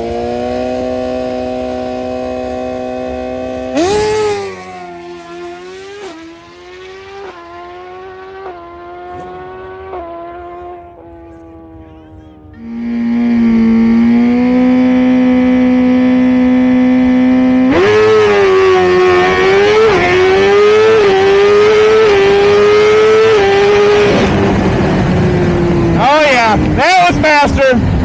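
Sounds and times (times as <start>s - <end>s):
motorcycle engine revving and accelerating: 0.0s - 28.0s.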